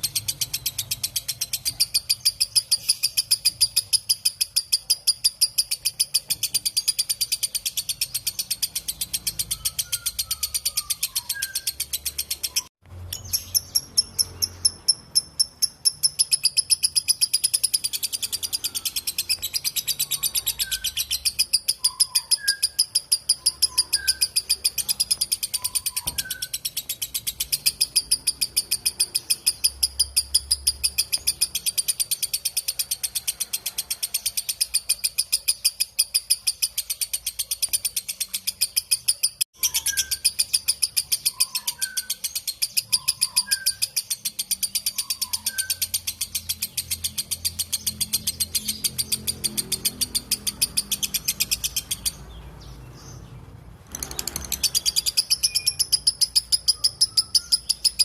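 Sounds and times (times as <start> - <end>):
lovebird shrill chatter: 0.0 - 36.6, 38.8 - 52.2, 53.8 - 58.0.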